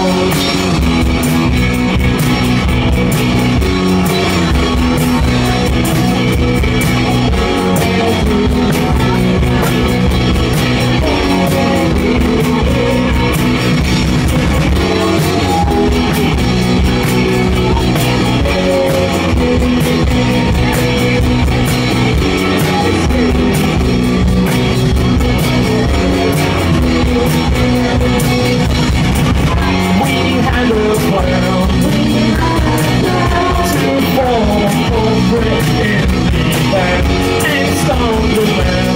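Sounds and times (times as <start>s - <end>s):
drum kit: 0.0s - 38.9s
electric guitars: 0.0s - 38.9s
person singing: 0.0s - 38.9s.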